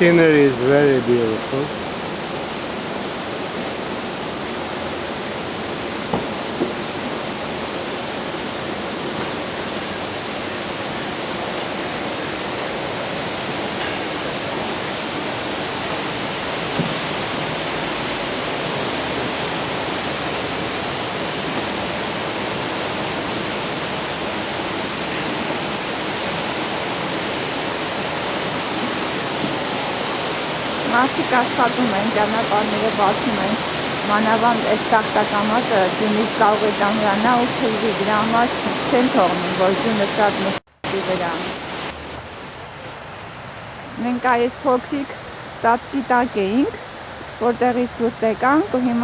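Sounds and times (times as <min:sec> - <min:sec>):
rushing hiss of outdoor noise: 0:00.0 - 0:49.0.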